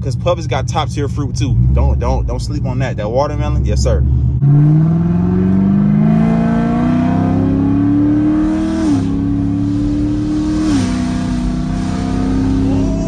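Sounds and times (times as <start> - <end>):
car engine accelerating hard: 0.9 - 13.0.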